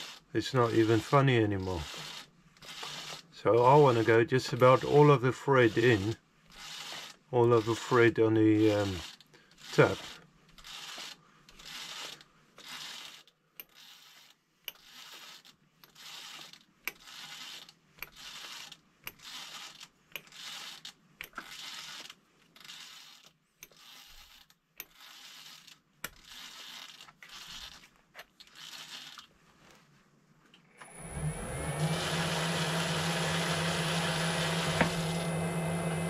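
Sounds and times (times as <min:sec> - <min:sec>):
tap rasping scrape in metal: 0:00.0 - 0:29.2, 0:34.6 - 0:35.1.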